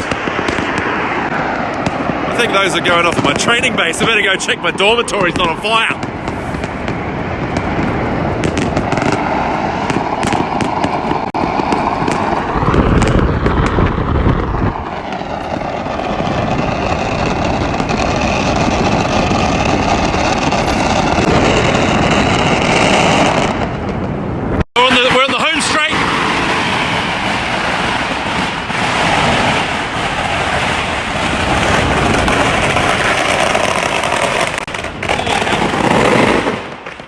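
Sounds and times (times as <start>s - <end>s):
moving vehicle road noise: 0.0s - 24.6s, 26.0s - 36.6s
fireworks crackling: 0.0s - 37.0s.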